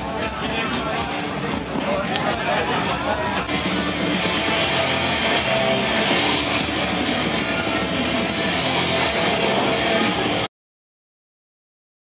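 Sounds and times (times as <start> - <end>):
rock music: 0.0 - 10.5.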